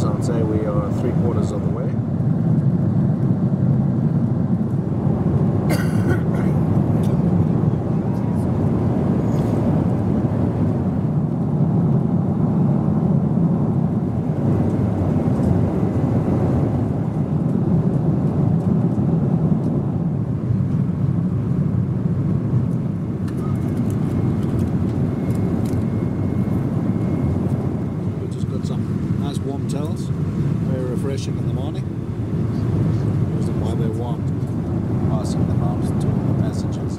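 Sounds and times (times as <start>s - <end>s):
airplane cabin engine roar: 0.0s - 36.9s.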